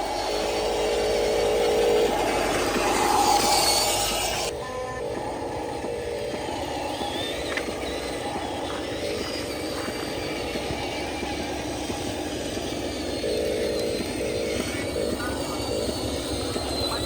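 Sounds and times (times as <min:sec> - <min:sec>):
small electric motors whining: 0:00.0 - 0:17.0
steady rushing noise: 0:00.0 - 0:17.0.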